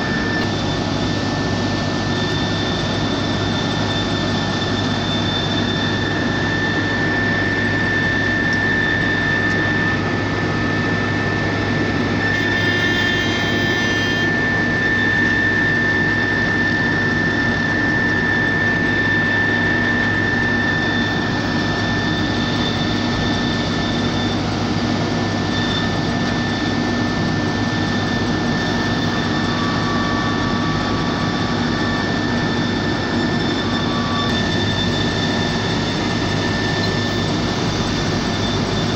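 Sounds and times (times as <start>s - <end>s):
heavy machinery engine: 0.0s - 38.9s
high whine: 0.0s - 38.9s.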